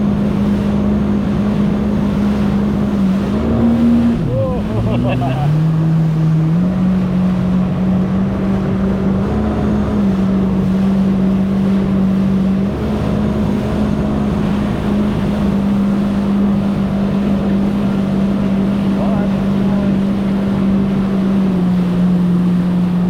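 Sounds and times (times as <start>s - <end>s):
jet ski engine droning: 0.0s - 23.0s.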